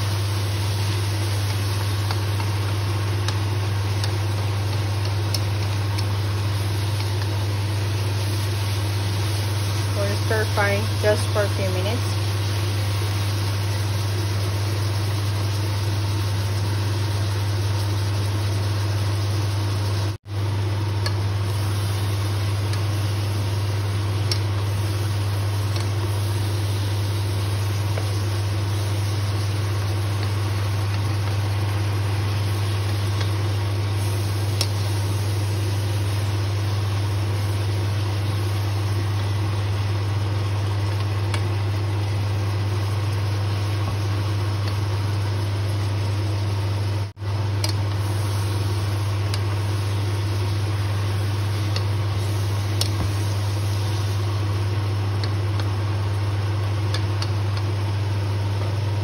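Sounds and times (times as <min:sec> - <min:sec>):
food frying in a pot: 0:00.0 - 0:59.0
steady low hum: 0:00.0 - 0:59.0.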